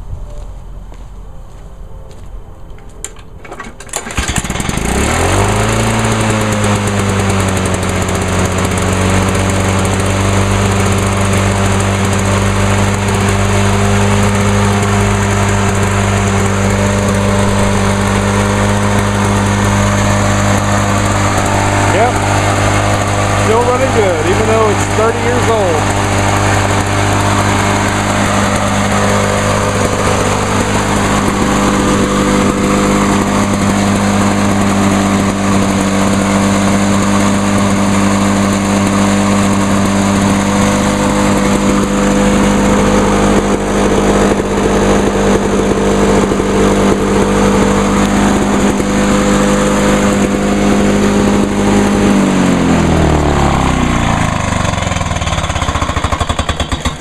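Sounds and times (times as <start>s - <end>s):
lawn mower engine running: 2.7s - 57.0s.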